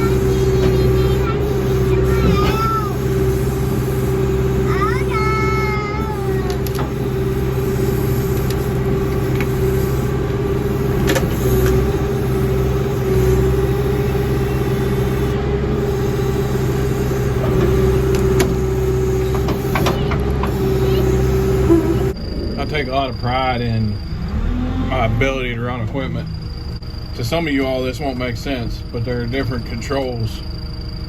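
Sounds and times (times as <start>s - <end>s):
engine humming with high whine: 0.0s - 31.0s.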